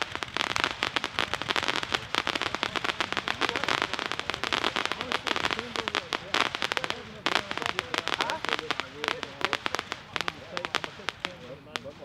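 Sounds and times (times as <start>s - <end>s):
firework cake pops and crackles: 0.0s - 12.0s.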